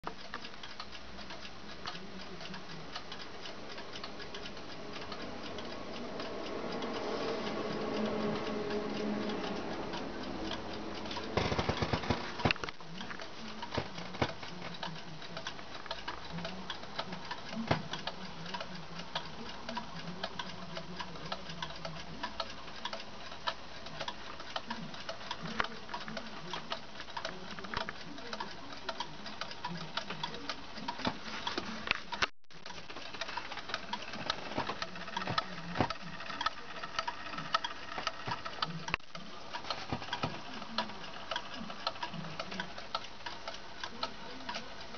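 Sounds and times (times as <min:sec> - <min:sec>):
wall clock ticking: 0:00.0 - 0:44.9.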